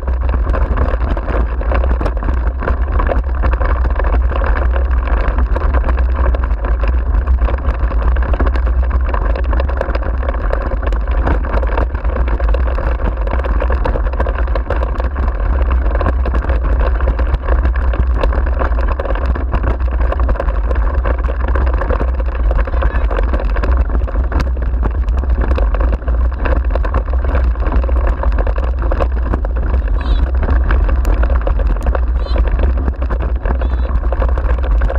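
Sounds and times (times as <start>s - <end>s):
wheels rolling over gravel: 0.0s - 34.9s
wind rumble on microphone: 0.0s - 34.9s.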